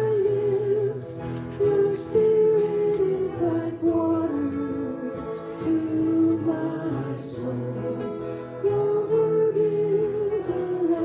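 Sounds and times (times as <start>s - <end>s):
electric guitar: 0.0s - 11.0s
person singing: 0.0s - 11.0s
strummed acoustic guitar: 0.0s - 11.0s.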